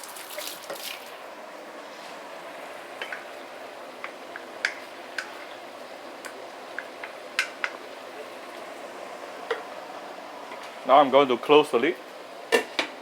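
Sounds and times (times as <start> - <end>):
sauce bubbling in a wok: 0.0 - 10.7.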